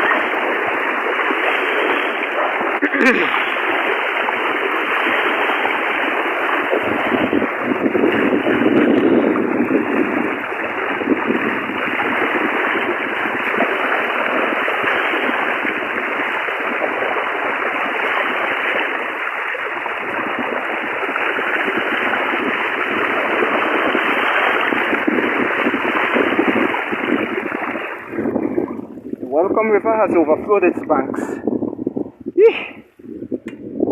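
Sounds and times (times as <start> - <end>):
rushing floodwater: 0.0 - 33.0.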